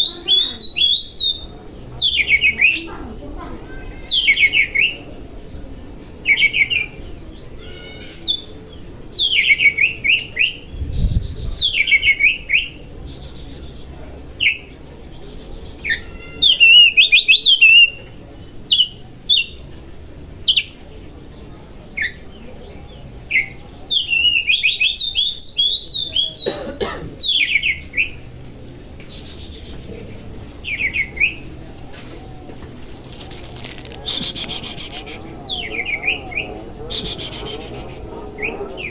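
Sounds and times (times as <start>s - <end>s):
magpie-robin singing: 0.0s - 3.0s, 3.7s - 26.5s, 27.2s - 31.6s, 32.8s - 38.9s.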